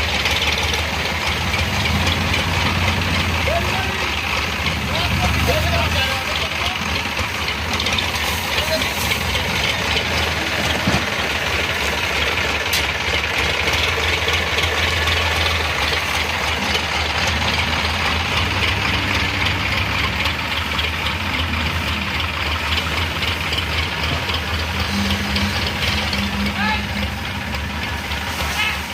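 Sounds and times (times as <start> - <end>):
heavy diesel engine idling: 0.0 - 28.9.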